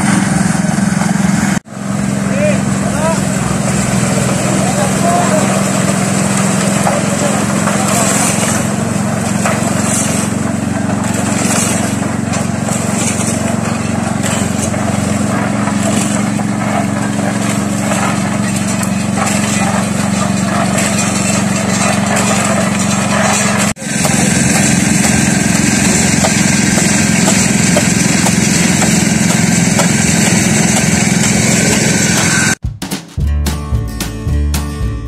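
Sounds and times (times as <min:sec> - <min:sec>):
concrete mixer engine running: 0:00.0 - 0:32.6.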